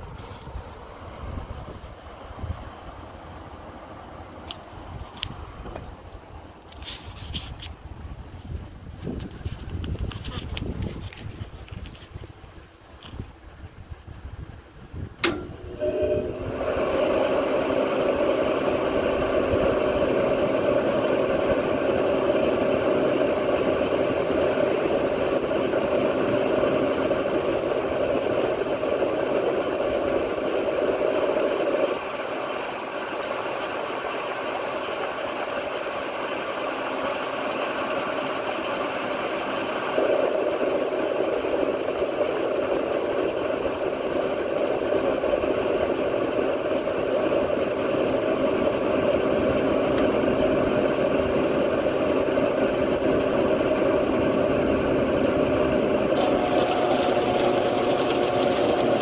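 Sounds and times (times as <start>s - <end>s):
cooling fan rushing: 0.0s - 59.0s
transformer mains hum: 0.0s - 59.0s.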